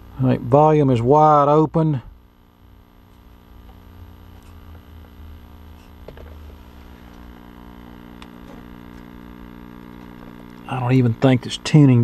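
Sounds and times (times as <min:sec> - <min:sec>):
radio loudspeaker hum: 0:00.0 - 0:12.0.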